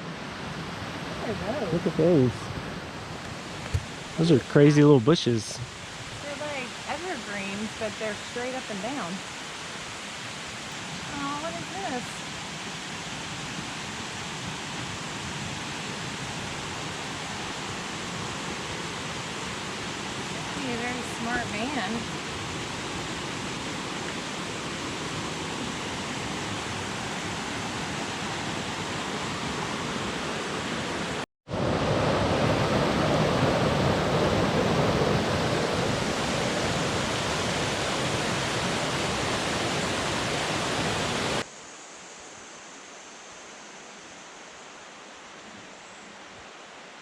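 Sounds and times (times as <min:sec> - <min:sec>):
rushing mountain stream: 0:00.0 - 0:47.0.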